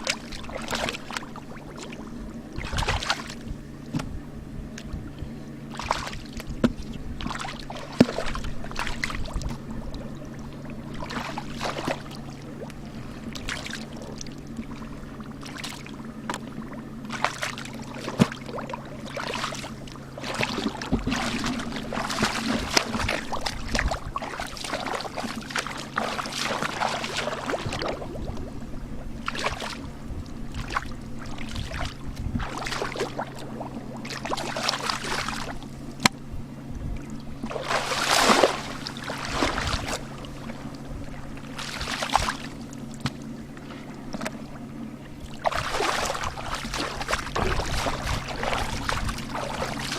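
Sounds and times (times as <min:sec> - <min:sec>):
steady low hum: 0:00.0 - 0:49.9
water splashing and sloshing: 0:00.0 - 0:49.9.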